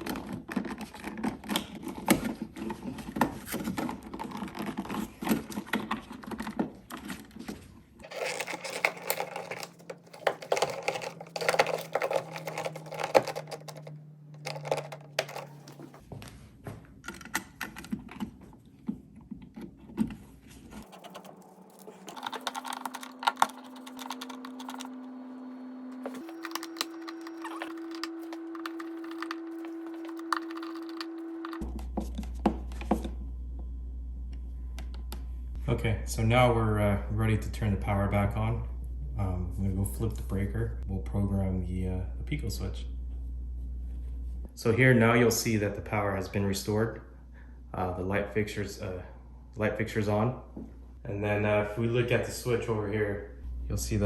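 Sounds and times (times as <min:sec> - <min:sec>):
steady low hum: 0:07.6 - 0:54.0.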